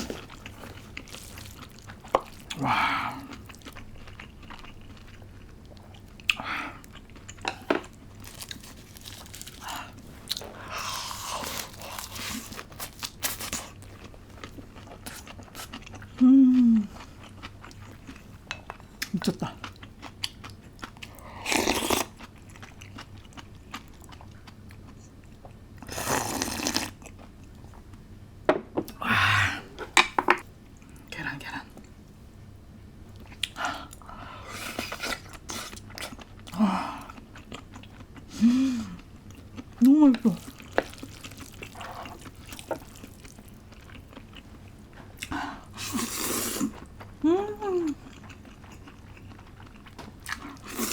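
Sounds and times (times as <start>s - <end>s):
person chewing noodles: 0.0s - 27.4s, 33.2s - 50.9s.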